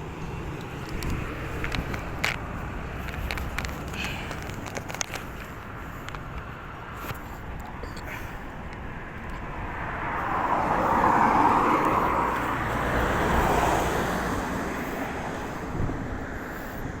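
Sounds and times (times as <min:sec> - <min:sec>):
road vehicle passing by: 0:00.0 - 0:17.0.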